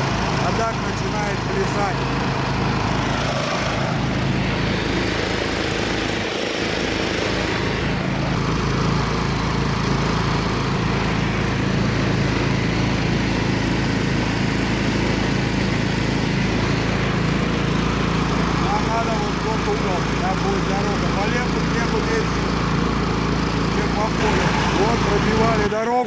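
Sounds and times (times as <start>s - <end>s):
engine running under load: 0.0s - 26.0s.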